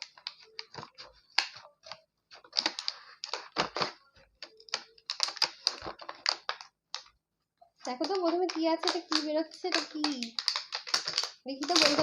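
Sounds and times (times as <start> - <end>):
scissors cutting plastic packaging: 0.0 - 7.1, 7.9 - 12.0.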